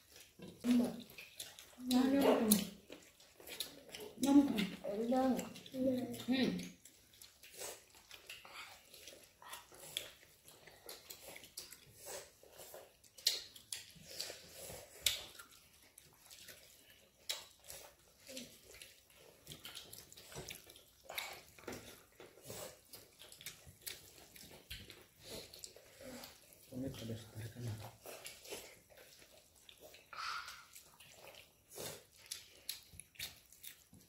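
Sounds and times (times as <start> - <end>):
wet squishing of eating with fingers: 0.0 - 34.0.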